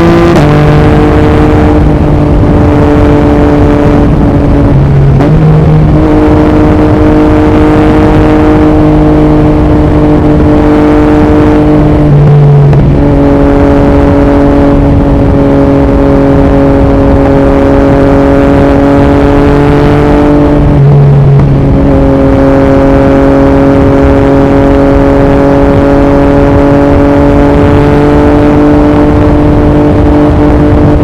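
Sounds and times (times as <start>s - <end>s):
motorcycle engine at highway revs: 0.0s - 31.0s
wind rushing on microphone: 0.0s - 31.0s.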